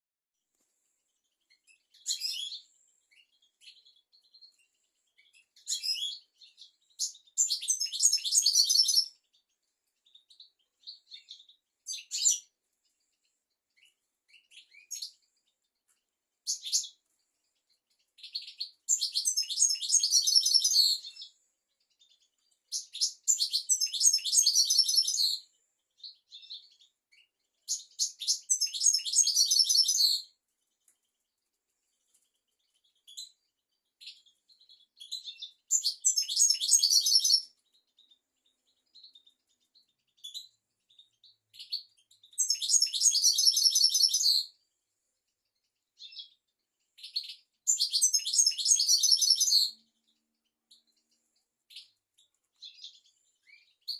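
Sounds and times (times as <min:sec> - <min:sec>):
goldfinch song twittering: 0:01.3 - 0:13.1, 0:16.4 - 0:30.3, 0:32.6 - 0:44.5, 0:47.0 - 0:53.9.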